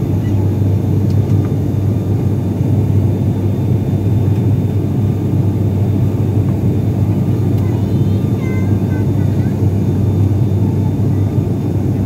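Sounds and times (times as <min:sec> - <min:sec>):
turboprop engines droning in cabin: 0:00.0 - 0:12.0.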